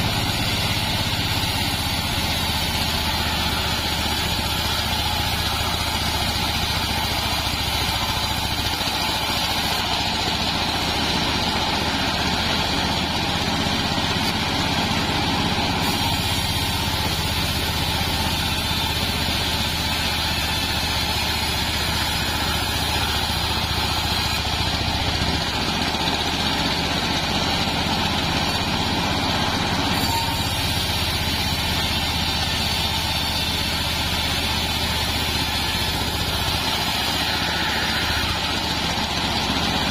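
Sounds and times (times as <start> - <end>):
bandsaw cutting log: 0.0 - 39.9
mill motor running: 0.0 - 39.9.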